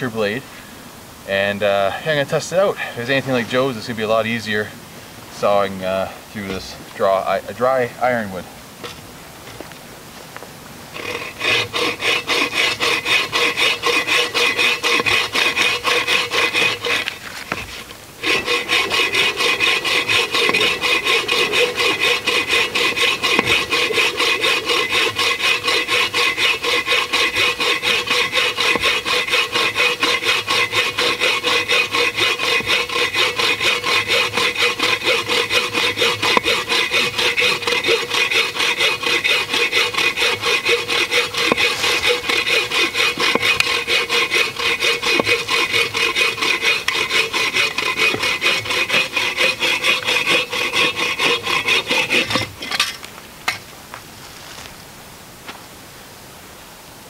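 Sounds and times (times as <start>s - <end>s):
bow saw cutting log: 1.3s - 4.7s, 10.9s - 53.6s.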